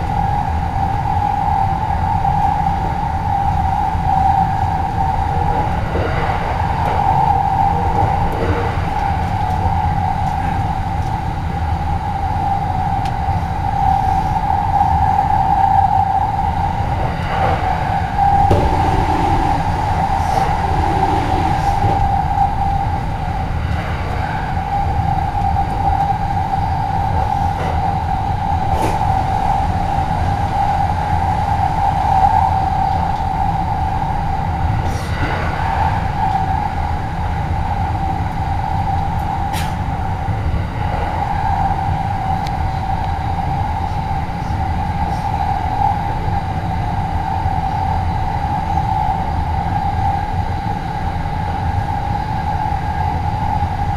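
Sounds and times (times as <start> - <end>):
continuous whine: 0.0 - 53.9
train low rumble: 0.0 - 53.9.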